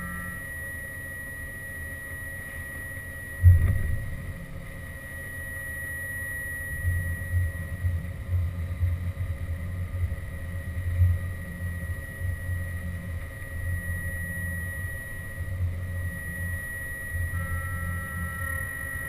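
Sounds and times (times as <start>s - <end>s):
high-pitched machine whine: 0.0s - 19.0s.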